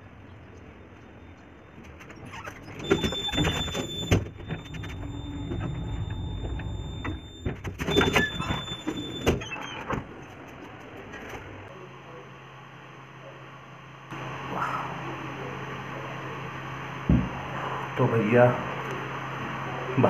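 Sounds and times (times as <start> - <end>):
lift motor hum and whine: 0.0 - 20.0.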